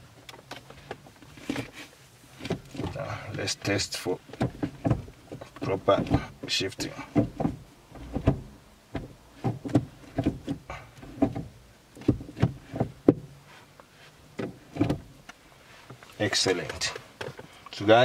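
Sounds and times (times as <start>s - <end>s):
gear lever clunking and clicking: 0.2s - 13.4s, 14.3s - 15.4s, 16.0s - 17.5s.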